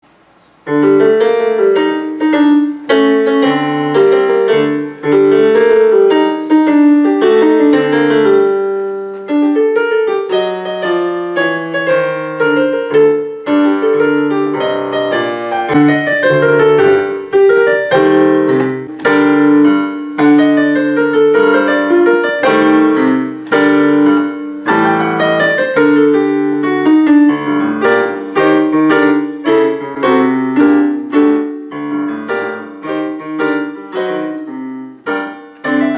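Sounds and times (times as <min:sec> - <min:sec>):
solo piano playing: 0:00.0 - 0:35.9.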